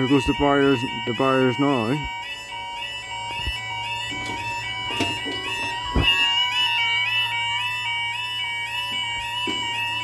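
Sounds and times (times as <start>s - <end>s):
level crossing alarms warbling: 0.0s - 10.0s.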